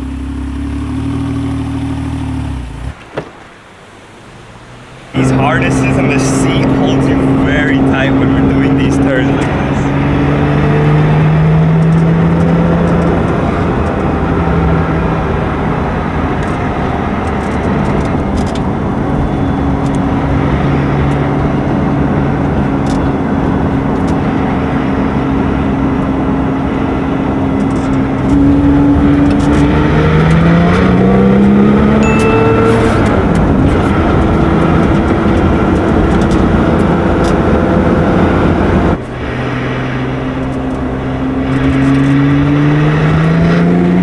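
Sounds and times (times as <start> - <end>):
car engine running under load: 0.0 - 44.0.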